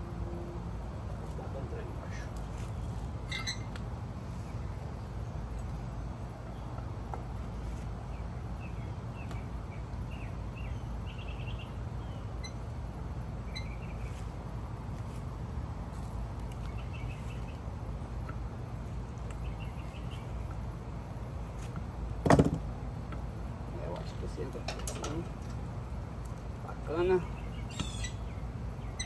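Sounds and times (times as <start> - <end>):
small birds chirping: 1.4 - 22.0, 23.2 - 29.0.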